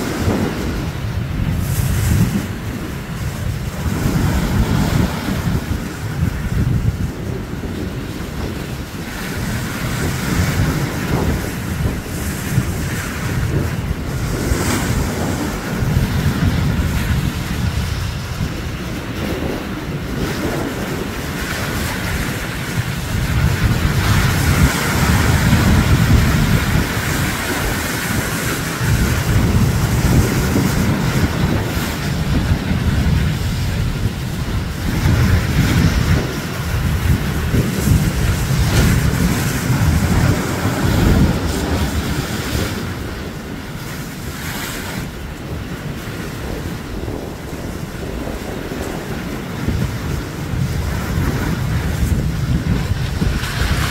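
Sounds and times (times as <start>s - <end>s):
surf breaking against rocks: 0.0s - 53.9s
wind buffeting microphone: 0.0s - 53.9s.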